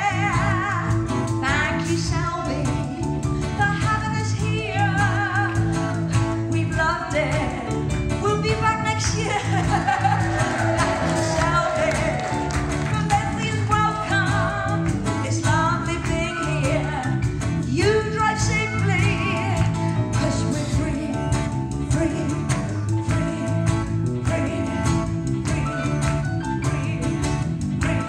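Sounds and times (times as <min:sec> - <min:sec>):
live band playing: 0:00.0 - 0:28.0
woman singing lead vocal: 0:00.0 - 0:28.0
steady drum beat: 0:00.2 - 0:28.0.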